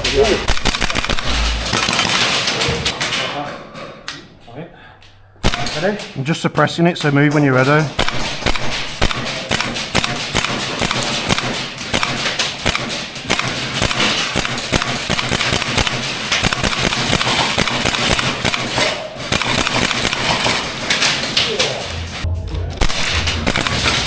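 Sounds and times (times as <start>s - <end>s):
airsoft gunfire: 0.1s - 3.2s, 5.4s - 6.2s, 7.3s - 22.2s, 22.8s - 24.0s.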